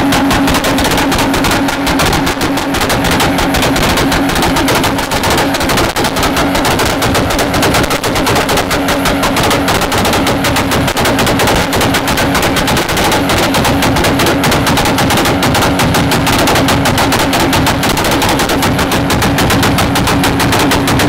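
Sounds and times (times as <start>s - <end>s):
engine droning at rev limit: 0.0s - 21.0s
rapid exhaust bangs: 0.0s - 21.0s.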